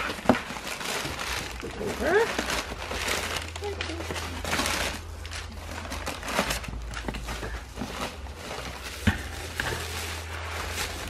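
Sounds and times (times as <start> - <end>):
packing paper rustling: 0.0 - 11.0.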